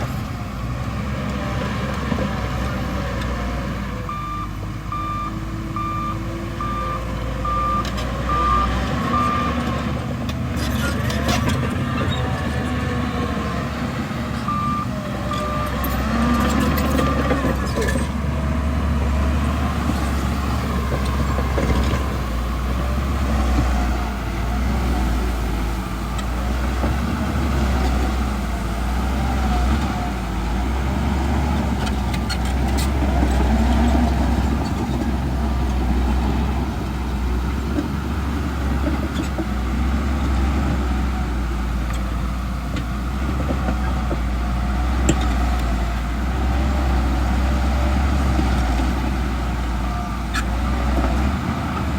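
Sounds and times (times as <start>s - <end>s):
heavy diesel engine rumbling: 0.0s - 51.9s.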